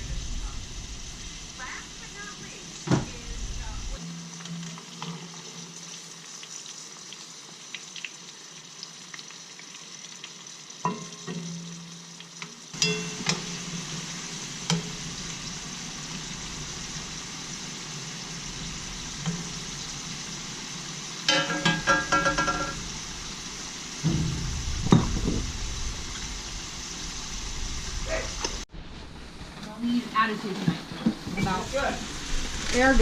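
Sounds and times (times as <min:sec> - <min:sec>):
patties sizzling in oil: 0:00.0 - 0:28.7, 0:29.3 - 0:33.0.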